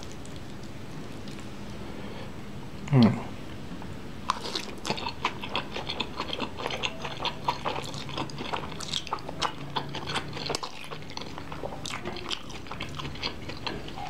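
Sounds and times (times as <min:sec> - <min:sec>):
wet chewing and slurping: 0:00.0 - 0:01.8, 0:04.3 - 0:14.0.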